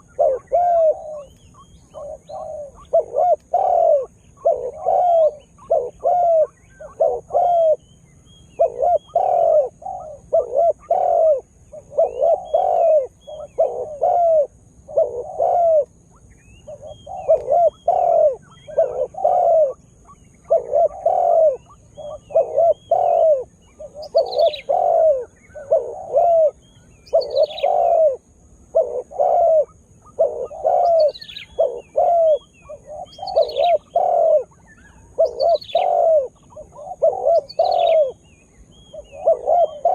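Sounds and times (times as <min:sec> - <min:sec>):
dove cooing: 0:00.0 - 0:07.9, 0:08.5 - 0:39.9.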